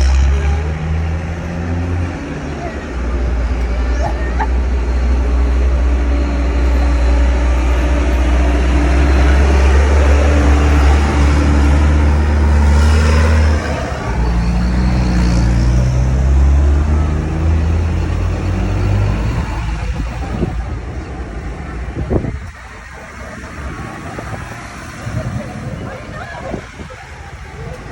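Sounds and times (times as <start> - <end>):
tractor diesel engines driving past: 0.0 - 27.9.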